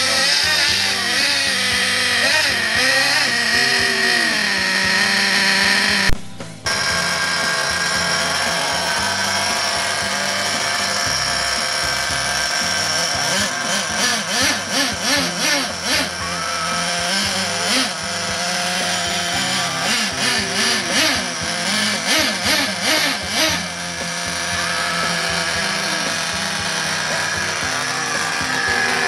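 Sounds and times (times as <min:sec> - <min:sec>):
small engine revving: 0:00.0 - 0:29.0.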